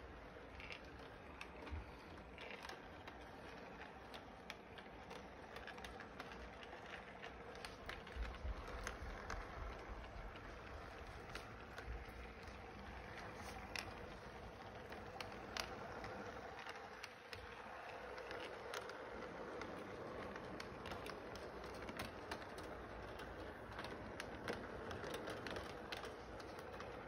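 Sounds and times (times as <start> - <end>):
model train motor hum: 0.0 - 27.0
wheels clicking over rail joints: 0.0 - 27.0.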